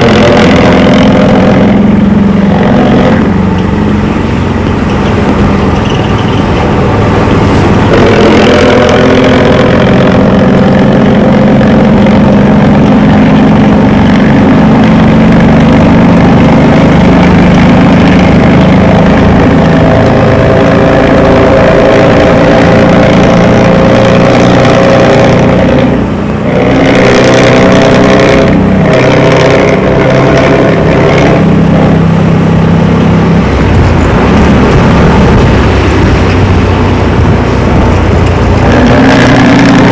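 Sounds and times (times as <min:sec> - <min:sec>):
bus diesel engine growling: 0:00.0 - 0:39.9.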